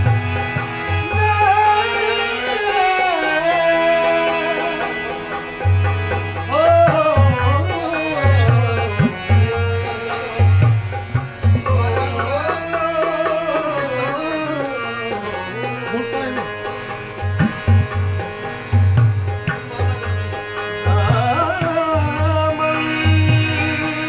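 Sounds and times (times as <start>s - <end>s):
keyed banjo melody: 0.0s - 24.0s
tabla rhythm: 0.0s - 24.0s.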